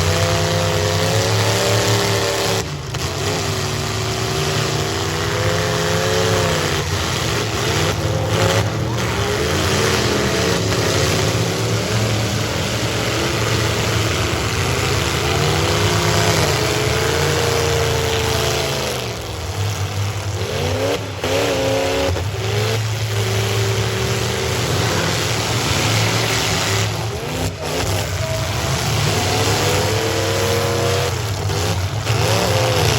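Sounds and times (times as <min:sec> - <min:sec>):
car engines revving hard: 0:00.0 - 0:32.9.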